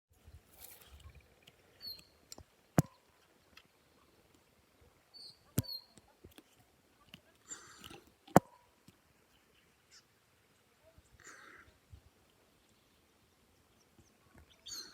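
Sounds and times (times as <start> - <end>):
birds chirping: 0.6 - 11.8, 12.4 - 14.9.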